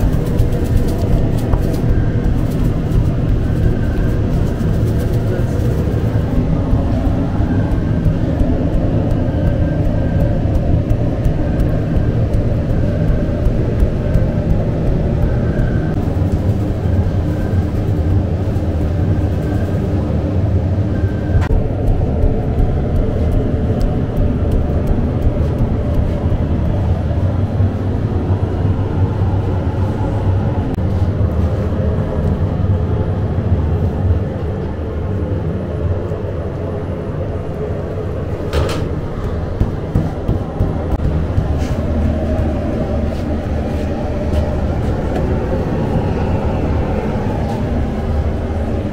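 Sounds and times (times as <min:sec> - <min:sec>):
bakery machinery drone: 0:00.0 - 0:48.9.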